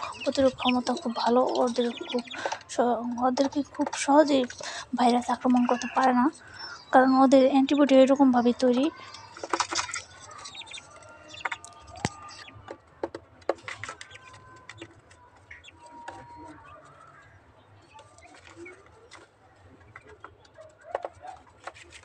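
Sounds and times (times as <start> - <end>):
chicks chirping and clucking: 0.0 - 22.0.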